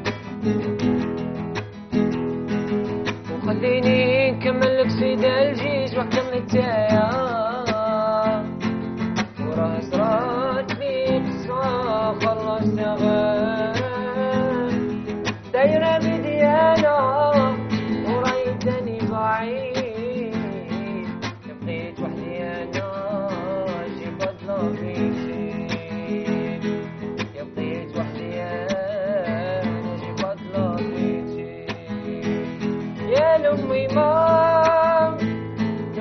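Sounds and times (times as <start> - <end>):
classical guitar strummed and picked: 0.0 - 36.0
man singing: 3.0 - 36.0.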